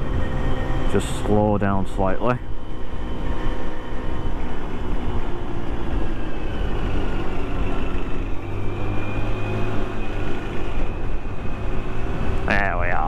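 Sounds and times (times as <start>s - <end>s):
moped engine hum and whine: 0.0s - 13.0s.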